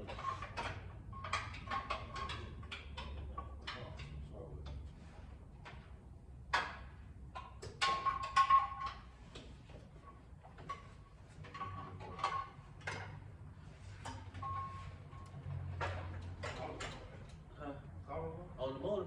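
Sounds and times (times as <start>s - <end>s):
metal knocks and clanks: 0.0s - 17.5s.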